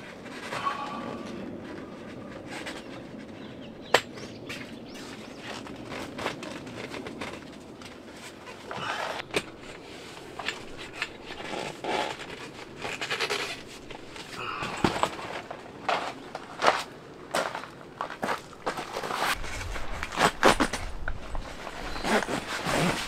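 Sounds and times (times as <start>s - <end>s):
handling clicks and knocks: 0.0s - 23.0s
scraping and rustling: 4.4s - 23.0s.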